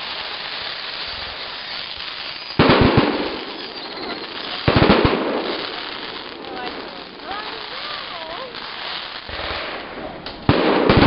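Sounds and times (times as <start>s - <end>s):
fireworks bangs and crackle: 0.0s - 11.0s
steady hiss: 0.0s - 11.0s.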